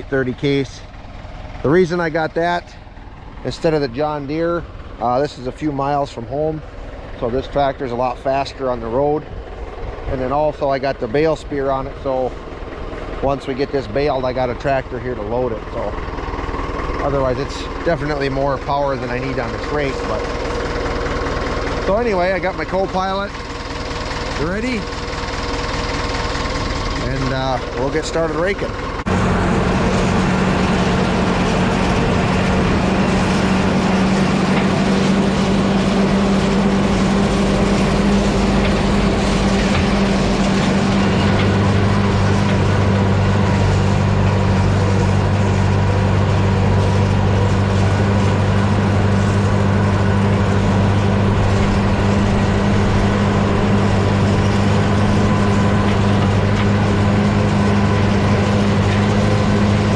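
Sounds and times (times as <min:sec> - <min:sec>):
deep steady hum: 0:00.0 - 0:59.9
tractor engine running: 0:00.0 - 0:59.9.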